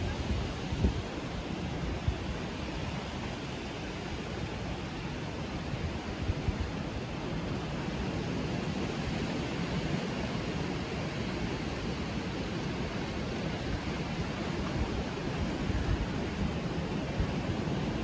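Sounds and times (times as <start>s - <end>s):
sea surf: 0.0s - 18.0s
wind rushing over microphone: 0.0s - 18.0s.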